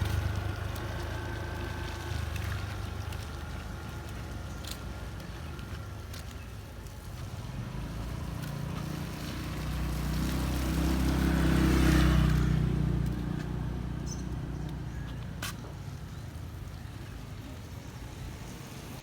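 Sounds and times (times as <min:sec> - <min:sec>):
vehicle passing on wet road: 0:00.0 - 0:19.0.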